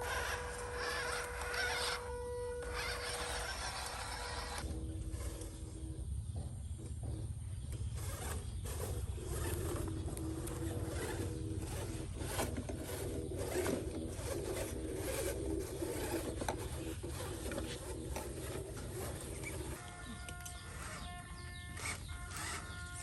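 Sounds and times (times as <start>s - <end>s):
rc car motor whining: 0.0s - 6.4s, 7.7s - 23.0s
wheels scraping on rough ground: 0.0s - 23.0s.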